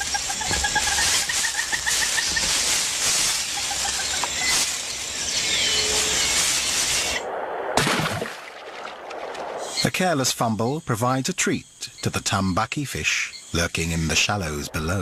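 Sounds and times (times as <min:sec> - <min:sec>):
bird calls: 0:00.0 - 0:07.2, 0:09.6 - 0:15.0
steady high hiss: 0:00.0 - 0:07.4, 0:09.5 - 0:15.0.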